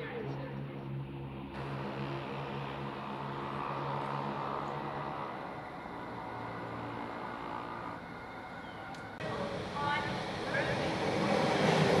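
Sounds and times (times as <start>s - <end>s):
diesel engine hum: 0.0s - 12.0s
train wheels on rail: 1.6s - 12.0s.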